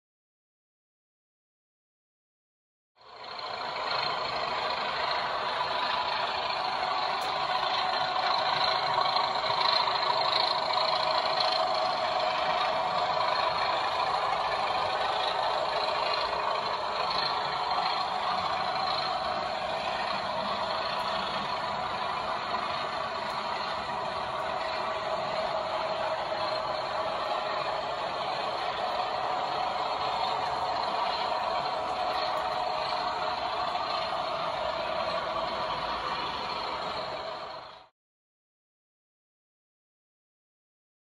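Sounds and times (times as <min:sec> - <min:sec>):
diesel engine sound from small speaker: 0:03.0 - 0:37.9.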